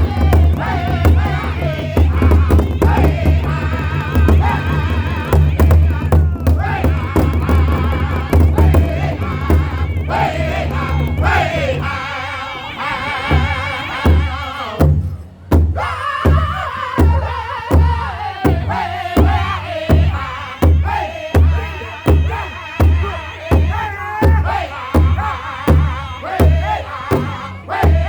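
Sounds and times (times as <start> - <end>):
big drum beating: 0.0 - 12.0, 13.3 - 28.0
men singing high wavering voices: 0.0 - 15.0, 15.7 - 28.0.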